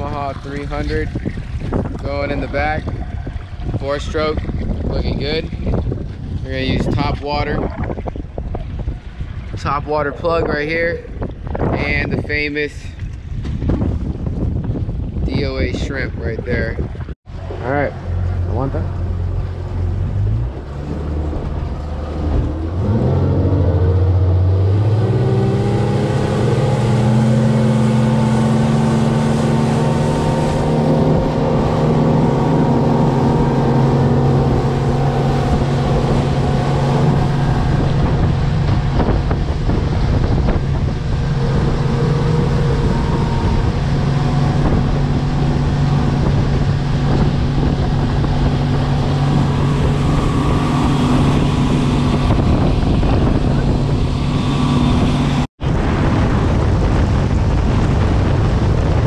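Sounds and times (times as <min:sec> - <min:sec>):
outboard motor throttling up: 0:00.0 - 0:16.7, 0:17.3 - 0:59.0
rushing water: 0:00.0 - 0:59.0
wind: 0:00.0 - 0:59.0.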